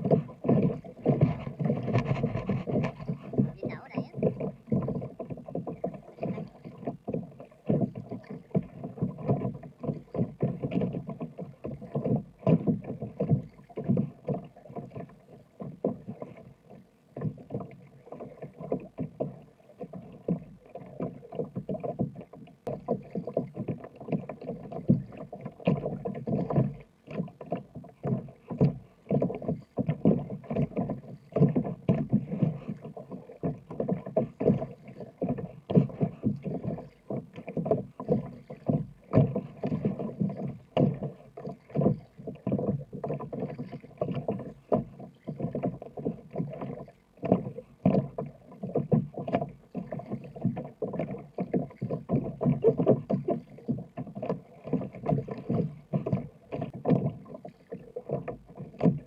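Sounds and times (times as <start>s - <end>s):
paddle dipping through water: 0.0s - 59.0s
waves slapping kayak hull: 0.0s - 59.0s.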